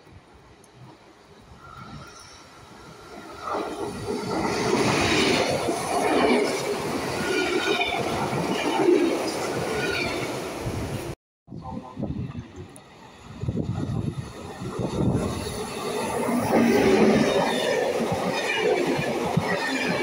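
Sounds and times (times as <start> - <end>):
train passing at speed: 0.2 - 20.0.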